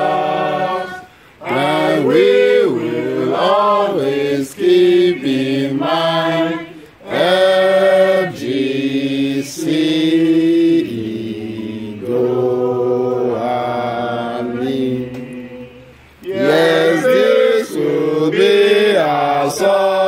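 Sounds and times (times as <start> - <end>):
group singing anthem: 0.0 - 20.0.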